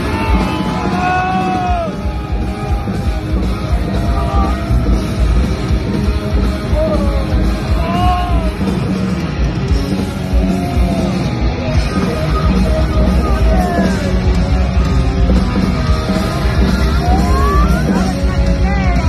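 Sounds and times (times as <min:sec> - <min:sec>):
heavy metal music: 0:00.0 - 0:19.0.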